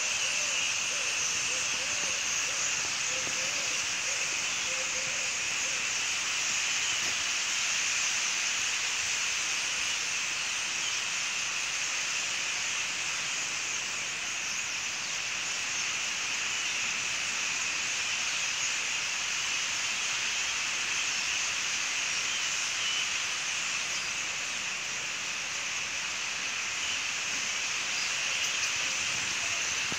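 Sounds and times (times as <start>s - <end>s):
starlings chattering: 0.0s - 9.2s, 9.8s - 29.9s.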